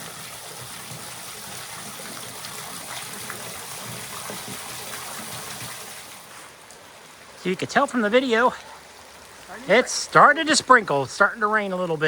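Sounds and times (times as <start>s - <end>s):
waterfall splashing over rocks: 0.0s - 12.0s.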